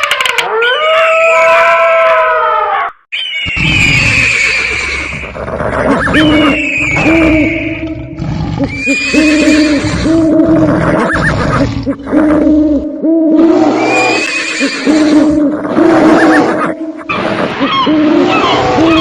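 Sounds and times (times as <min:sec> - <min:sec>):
animal crying with wavering pitch: 0:00.3 - 0:19.0.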